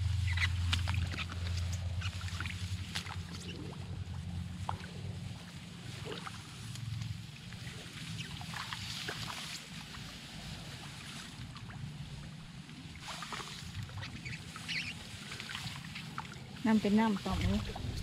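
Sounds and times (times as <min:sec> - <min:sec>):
wind rumble on microphone: 0:00.0 - 0:18.0
rice stalks rustling: 0:00.1 - 0:18.0.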